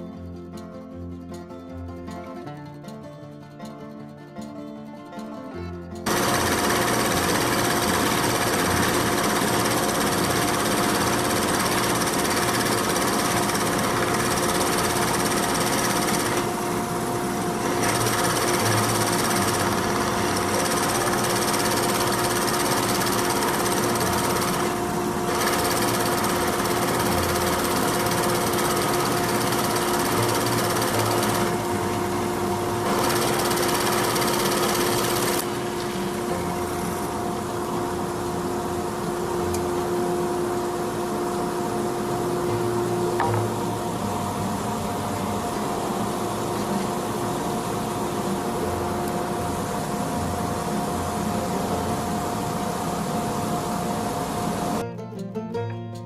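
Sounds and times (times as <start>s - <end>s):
woodworking power tool running: 6.1s - 54.8s.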